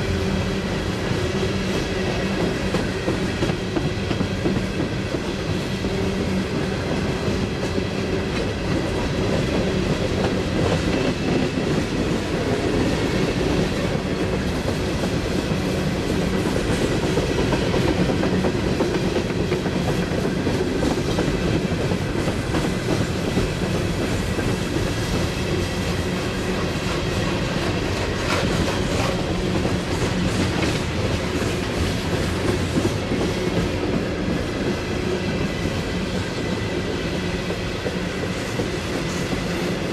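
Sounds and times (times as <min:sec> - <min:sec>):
freight train rolling past: 0:00.0 - 0:39.9
train wheels clicking over rail joints: 0:00.6 - 0:39.9.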